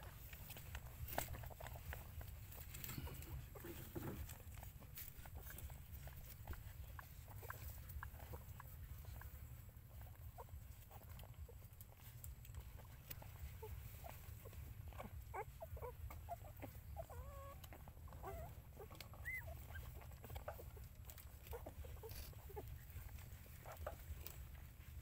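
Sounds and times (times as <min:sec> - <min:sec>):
puppies squeaking and whimpering: 0:00.0 - 0:25.0.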